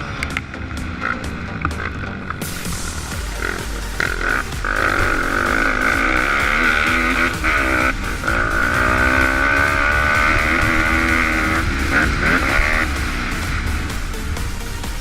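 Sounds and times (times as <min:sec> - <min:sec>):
background music: 0:00.0 - 0:15.0
pit bike engines revving: 0:00.0 - 0:15.0.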